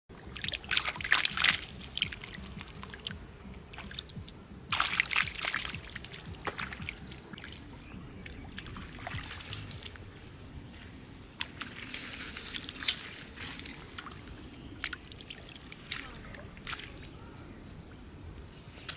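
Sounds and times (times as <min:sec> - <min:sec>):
feet wading through water: 0:00.1 - 0:18.9
splashing in muddy water: 0:00.1 - 0:18.9.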